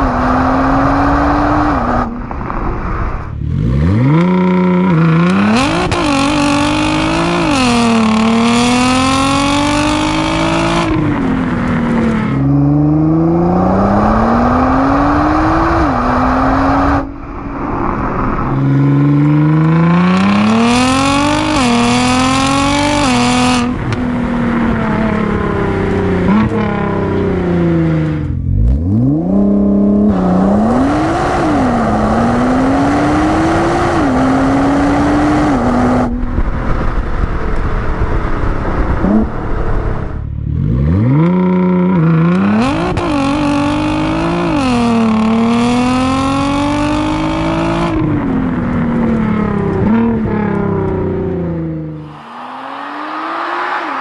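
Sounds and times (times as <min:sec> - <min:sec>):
car exhaust under hard acceleration: 0:00.0 - 0:54.0.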